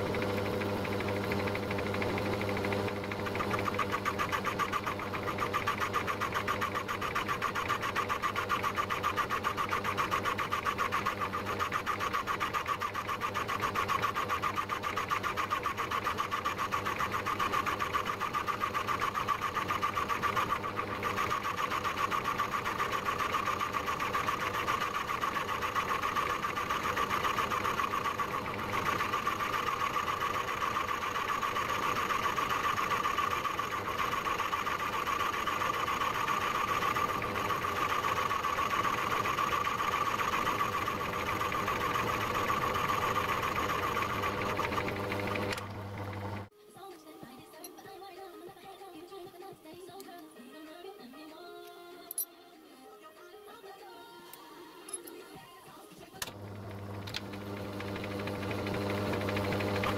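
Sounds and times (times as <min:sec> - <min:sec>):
lathe running: 0:00.0 - 0:46.5, 0:56.2 - 0:59.9.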